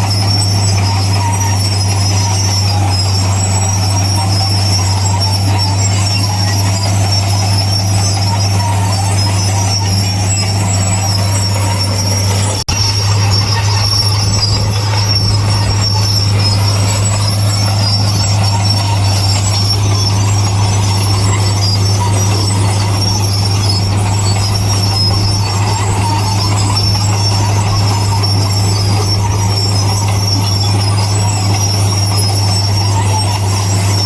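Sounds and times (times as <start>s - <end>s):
diesel construction machinery running: 0.0s - 34.0s
high metallic squeal: 0.0s - 34.0s.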